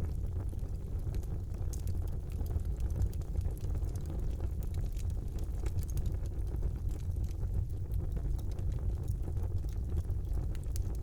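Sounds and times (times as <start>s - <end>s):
fire crackling and popping: 0.0s - 11.0s
rumble of flames: 0.0s - 11.0s.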